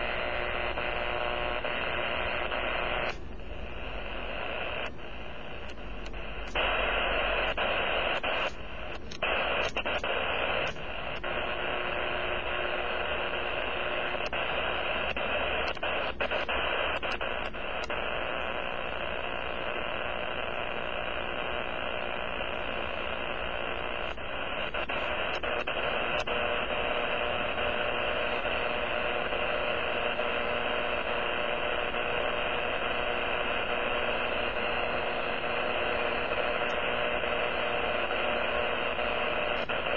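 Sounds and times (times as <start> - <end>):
radio static: 0.0 - 39.9
clicks: 1.6 - 11.7, 12.6 - 18.5, 22.1 - 39.9.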